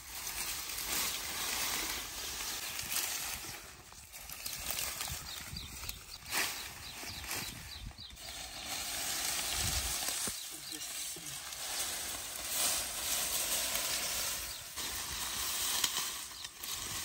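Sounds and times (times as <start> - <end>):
dry reeds rustling and crackling: 0.0 - 17.0.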